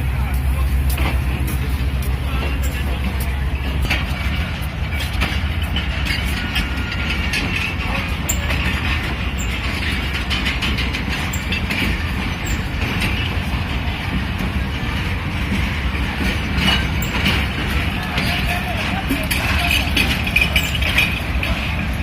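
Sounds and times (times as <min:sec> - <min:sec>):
train rumbling on rails: 0:00.0 - 0:22.0
wheels clicking on track: 0:00.0 - 0:22.0.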